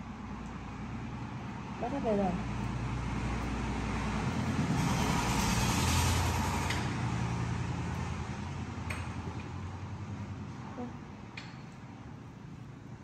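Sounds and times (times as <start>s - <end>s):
motor vehicle passing by: 0.0s - 11.0s.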